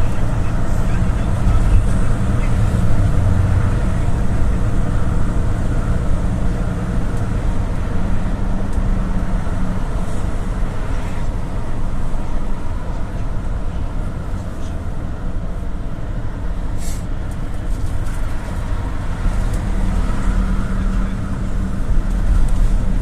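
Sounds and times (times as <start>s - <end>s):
minibus engine running: 0.0s - 23.0s
road and tyre noise: 0.0s - 23.0s.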